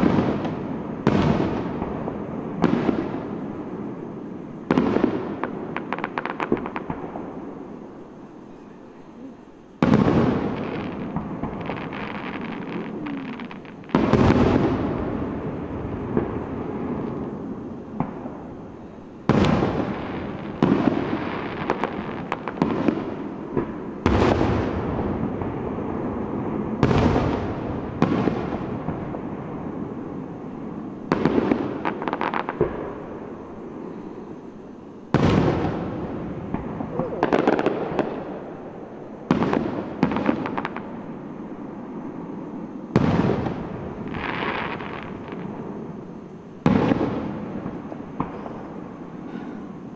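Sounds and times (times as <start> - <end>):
fireworks booming: 0.0 - 49.9
fireworks crackling: 0.0 - 49.9.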